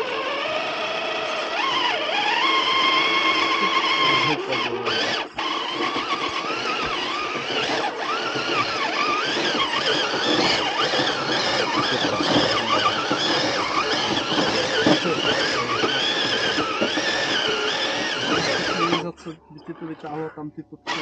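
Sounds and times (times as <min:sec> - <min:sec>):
electric motor and gearbox whining: 0:00.0 - 0:21.0.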